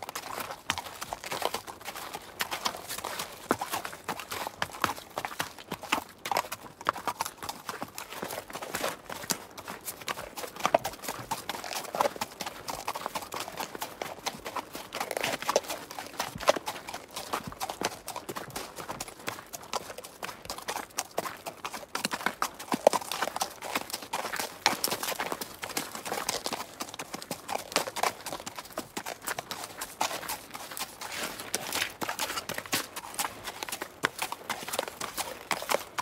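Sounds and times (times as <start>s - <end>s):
horse hooves trotting: 0.0s - 36.0s.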